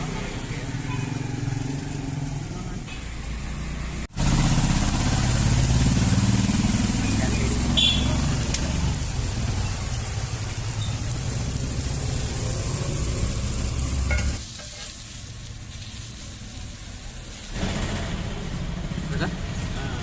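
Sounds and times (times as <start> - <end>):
food sizzling on a griddle: 0.0 - 17.8.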